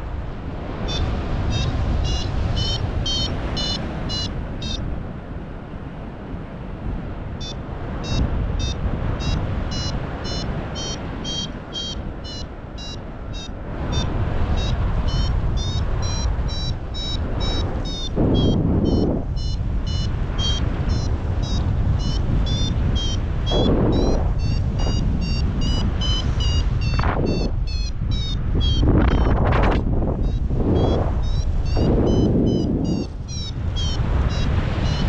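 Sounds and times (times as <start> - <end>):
wind buffeting microphone: 0.0 - 35.0
variometer beeping: 0.9 - 4.8, 7.4 - 35.0.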